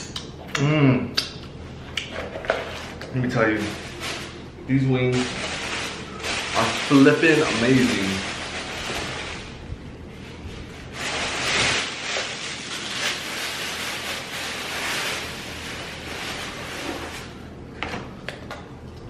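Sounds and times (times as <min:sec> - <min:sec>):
plastic bag rustling: 0:02.2 - 0:17.6.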